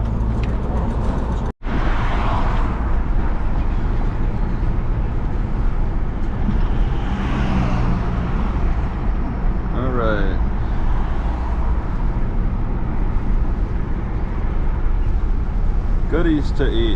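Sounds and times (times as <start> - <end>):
car engine and tyre road noise: 0.0 - 16.9.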